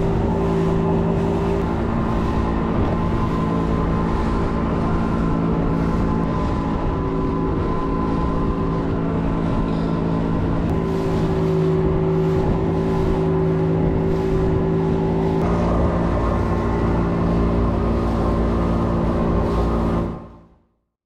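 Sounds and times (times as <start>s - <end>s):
outboard motor running: 0.0s - 20.6s.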